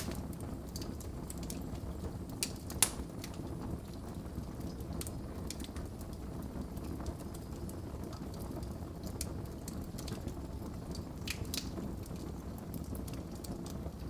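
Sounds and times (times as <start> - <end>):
fire crackling and popping: 0.0 - 14.0
low roar of flames: 0.0 - 14.0.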